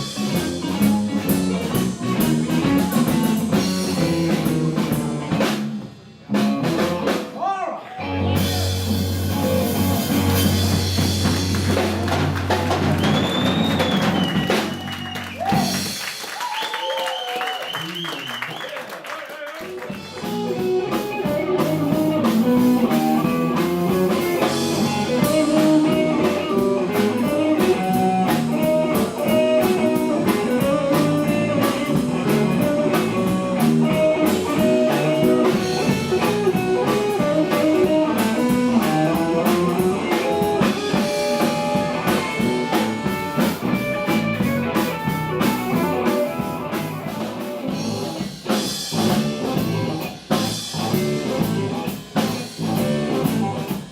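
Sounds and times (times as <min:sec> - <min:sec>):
electric guitar lines: 0:00.0 - 0:07.2, 0:08.0 - 0:15.9, 0:19.8 - 0:53.9
drum kit beat: 0:00.0 - 0:07.4, 0:08.1 - 0:17.6, 0:19.6 - 0:53.9
blues-rock band playing: 0:00.0 - 0:16.5, 0:19.6 - 0:53.9.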